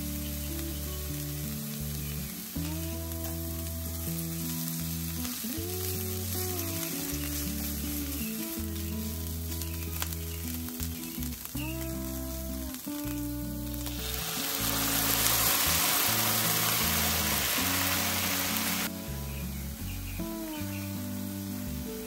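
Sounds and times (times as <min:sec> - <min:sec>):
onions sizzling in a frying pan: 0:00.0 - 0:22.0
soft background music: 0:00.0 - 0:22.0.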